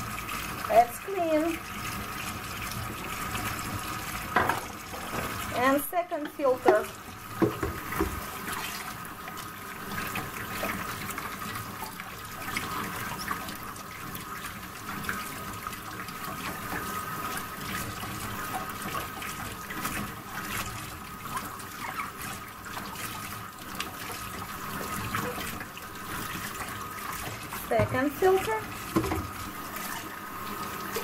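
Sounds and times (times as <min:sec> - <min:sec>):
tap water running and splashing: 0:00.0 - 0:31.0.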